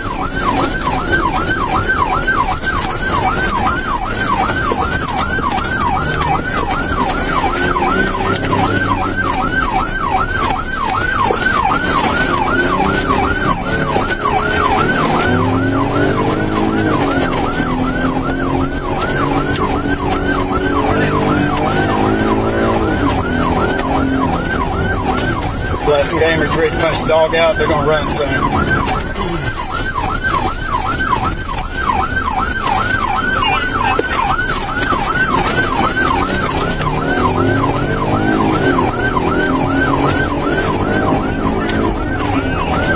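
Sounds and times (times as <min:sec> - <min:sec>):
car engine: 0:00.0 - 0:42.9
police siren yelping: 0:00.0 - 0:42.9.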